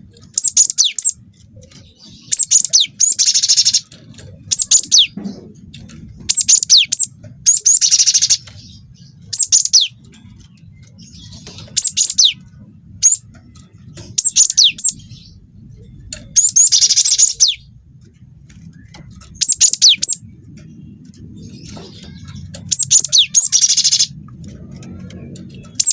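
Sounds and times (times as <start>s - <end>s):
buzzy bird chattering: 0.0s - 25.9s.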